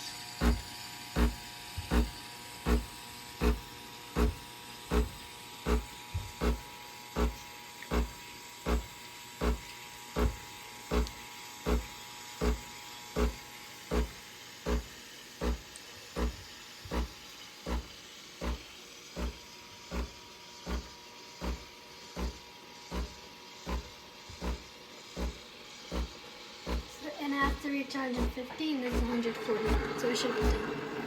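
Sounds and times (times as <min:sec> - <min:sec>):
steam wand hissing: 0:00.0 - 0:31.0.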